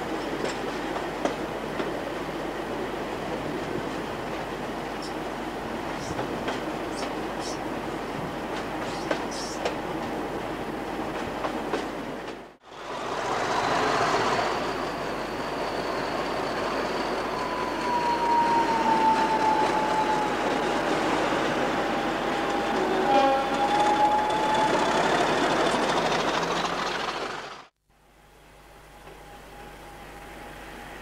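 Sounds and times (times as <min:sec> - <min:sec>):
diesel locomotives running: 0:00.0 - 0:27.7
train wheels over rail joints: 0:00.0 - 0:27.7.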